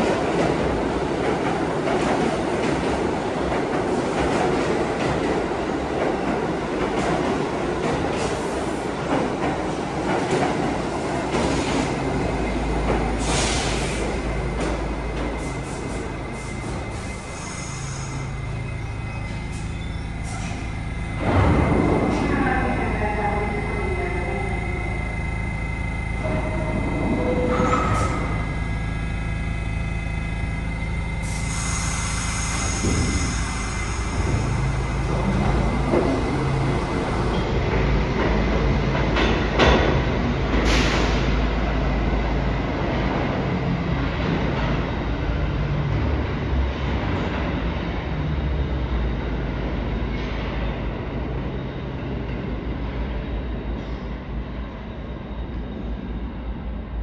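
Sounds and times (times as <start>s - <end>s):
subway train rumbling on rails: 0.0s - 57.0s.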